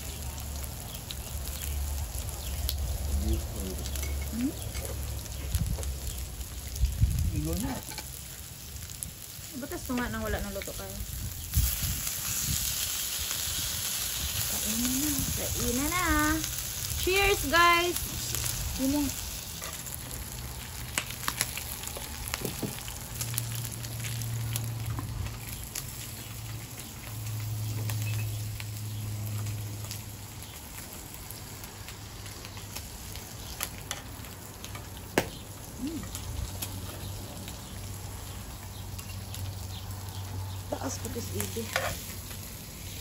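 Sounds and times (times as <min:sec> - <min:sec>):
meat sizzling on a grill pan: 0:00.0 - 0:43.0.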